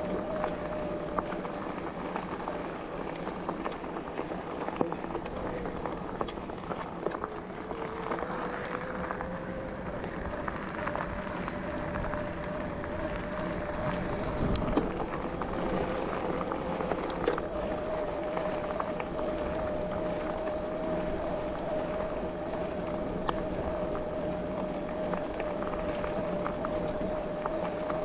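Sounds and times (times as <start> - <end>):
bicycle tyres on trail: 0.0 - 28.0
thin steady whine: 0.0 - 28.0.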